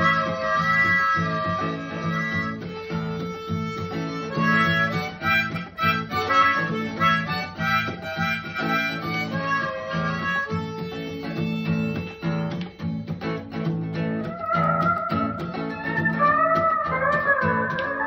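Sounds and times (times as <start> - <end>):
harmonica chords: 0.0 - 18.0
pedal steel guitar: 0.0 - 18.0.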